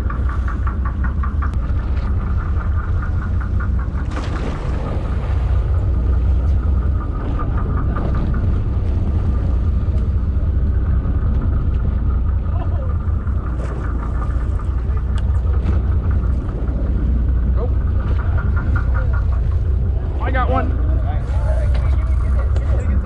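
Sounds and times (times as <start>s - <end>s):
fast pulsing hum: 0.0s - 23.0s
low engine rumble: 0.0s - 23.0s.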